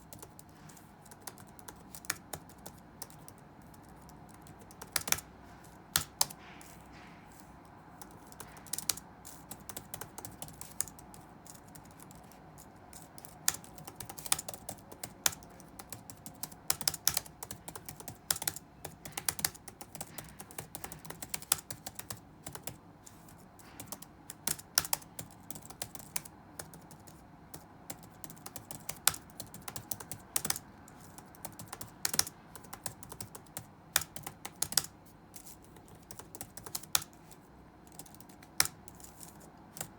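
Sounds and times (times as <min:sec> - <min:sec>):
computer keyboard typing: 0:00.0 - 0:07.0, 0:07.9 - 0:39.9.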